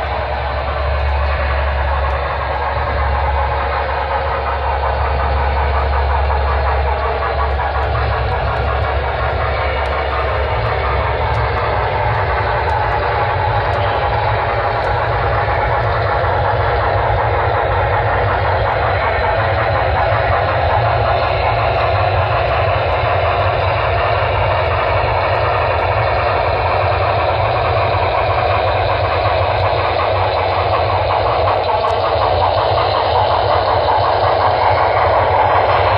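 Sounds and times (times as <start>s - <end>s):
deep rumble: 0.0s - 35.9s
model steam locomotive chuffing: 0.0s - 35.9s.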